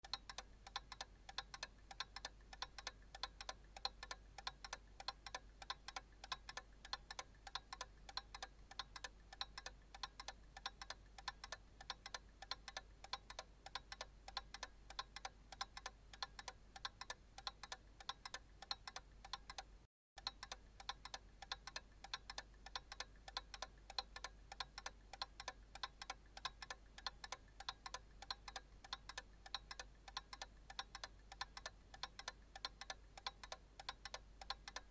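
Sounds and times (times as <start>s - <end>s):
clock ticking: 0.0s - 34.9s.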